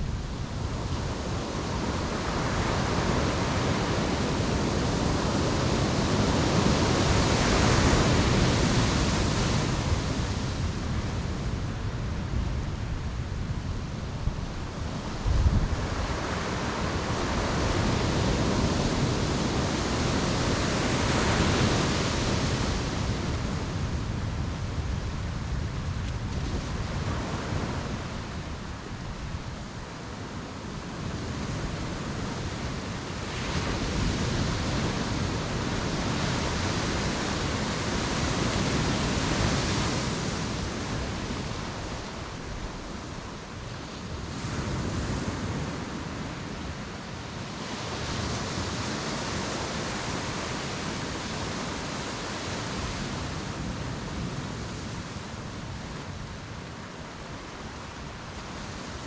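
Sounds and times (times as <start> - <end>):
sea waves breaking on beach: 0.1 - 11.9, 14.7 - 24.5, 25.3 - 59.0.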